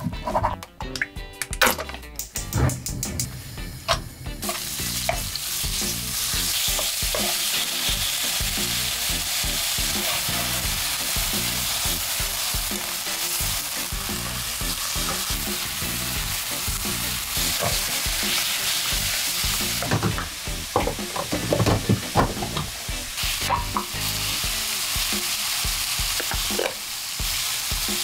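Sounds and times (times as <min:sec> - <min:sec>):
food sizzling in hot oil: 0:02.4 - 0:28.0.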